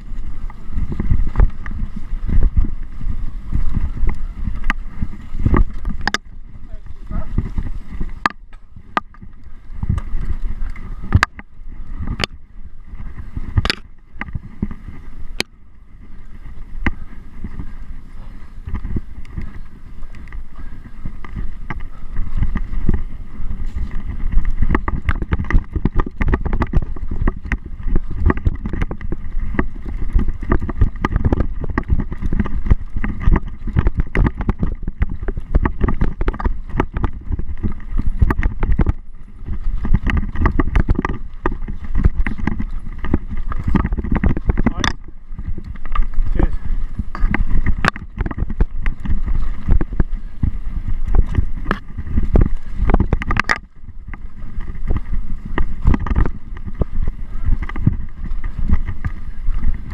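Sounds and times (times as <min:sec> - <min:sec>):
bike rattles and knocks: 0:00.0 - 0:59.9
mountain bike rumbling on rough trail: 0:00.0 - 0:59.9.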